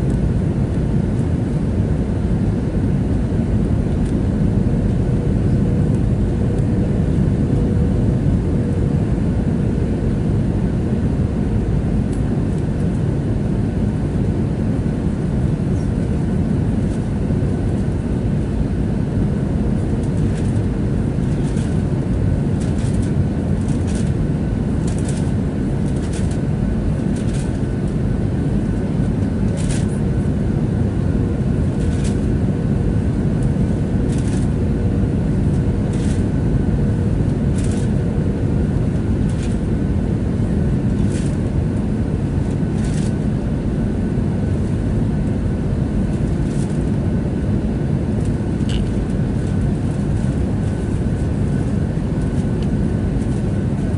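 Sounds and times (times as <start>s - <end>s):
airplane cabin engine noise: 0.0s - 53.9s
steady hum: 0.0s - 53.9s.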